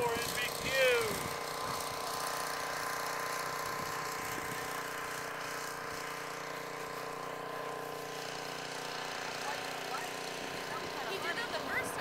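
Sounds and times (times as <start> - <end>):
small engine humming steadily: 0.0 - 12.0.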